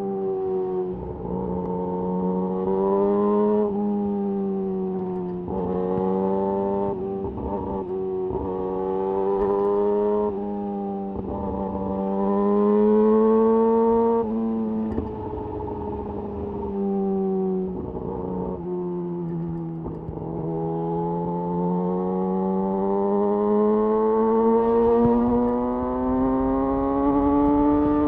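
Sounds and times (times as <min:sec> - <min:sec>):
motorcycle engine revving: 0:05.5 - 0:28.0.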